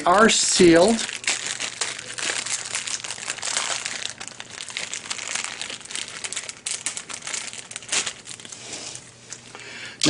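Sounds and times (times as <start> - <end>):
plastic packaging crinkling: 0.1 - 9.5.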